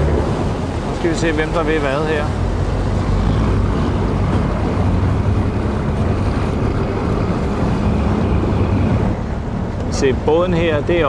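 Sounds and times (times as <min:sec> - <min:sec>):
motorboat engine droning: 0:00.0 - 0:11.0
water rushing and splashing: 0:00.0 - 0:11.0
wind buffeting microphone: 0:00.0 - 0:11.0.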